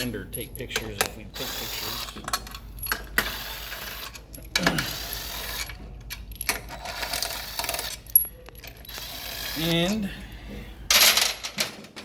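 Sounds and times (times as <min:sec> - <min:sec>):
hand tools and bolts clinking: 0:00.0 - 0:10.1.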